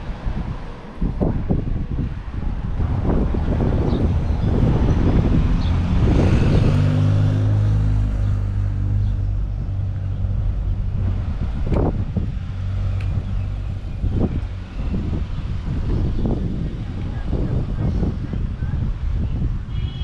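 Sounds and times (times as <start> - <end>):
street noise rumble: 0.0 - 20.0
vehicle engine humming: 0.0 - 20.0.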